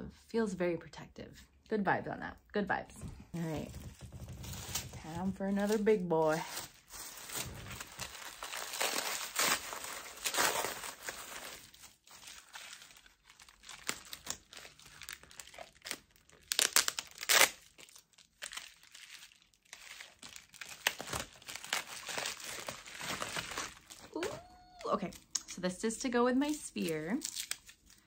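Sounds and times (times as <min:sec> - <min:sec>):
packing wrap crinkling and tearing: 0:03.4 - 0:24.9, 0:26.5 - 0:28.0.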